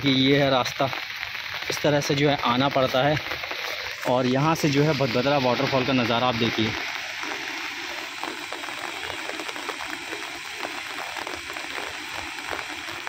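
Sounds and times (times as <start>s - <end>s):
waterfall rushing: 1.3s - 13.0s.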